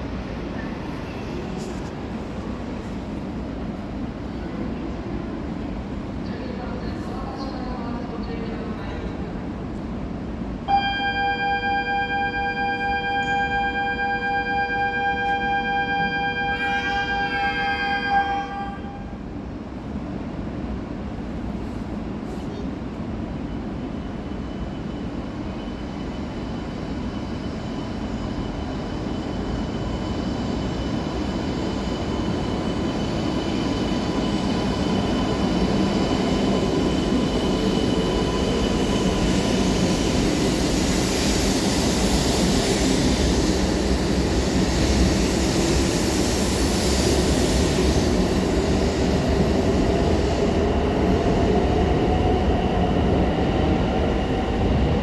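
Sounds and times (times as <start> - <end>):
train running: 0.0 - 55.0.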